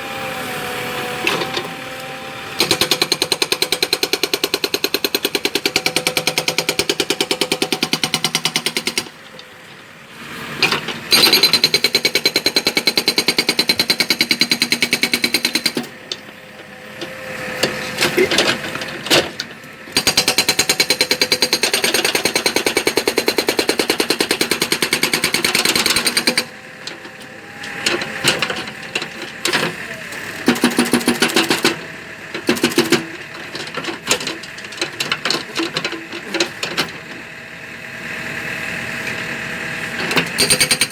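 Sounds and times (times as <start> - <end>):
hydraulic concrete breaker hammering: 1.0 - 9.2, 10.8 - 16.0, 17.0 - 37.2, 40.0 - 40.9.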